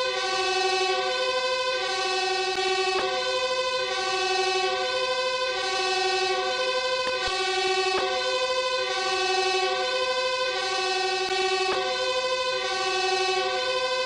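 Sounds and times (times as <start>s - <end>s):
fire engine siren: 0.0s - 14.0s.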